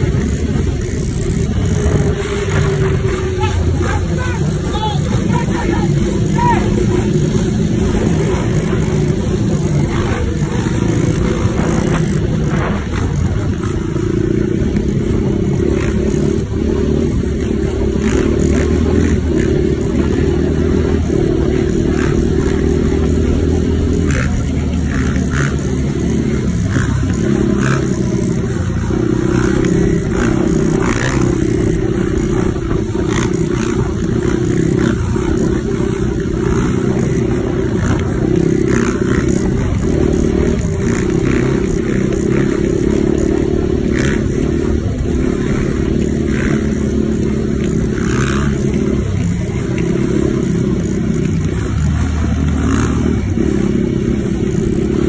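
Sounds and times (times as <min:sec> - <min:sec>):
motorcycle and quad engines running: 0:00.0 - 0:55.0.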